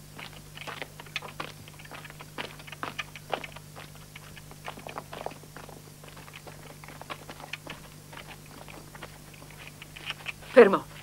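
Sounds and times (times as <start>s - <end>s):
faint low hum: 0.0s - 11.0s
footsteps crunching on gravel: 0.0s - 11.0s.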